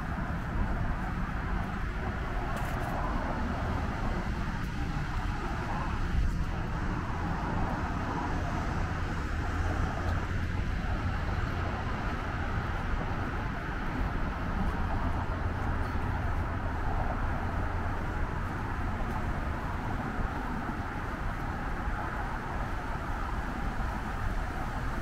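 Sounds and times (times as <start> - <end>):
distant road traffic hum: 0.0 - 25.0.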